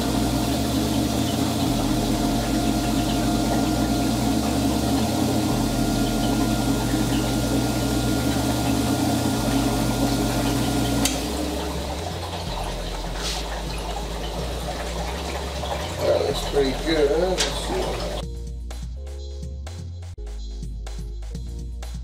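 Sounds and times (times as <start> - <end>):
band saw motor hum: 0.0 - 18.2
running water: 0.0 - 18.2.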